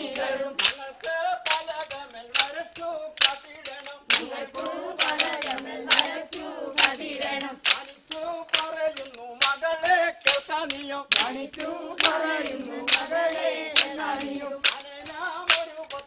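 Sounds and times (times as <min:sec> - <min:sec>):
group singing: 0:00.0 - 0:16.0
sharp hand claps: 0:00.0 - 0:16.0.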